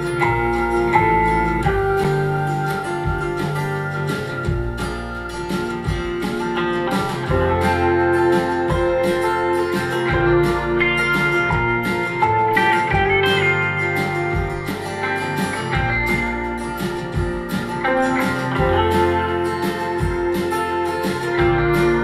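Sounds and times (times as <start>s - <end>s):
acoustic folk music with guitar: 0.0s - 22.0s.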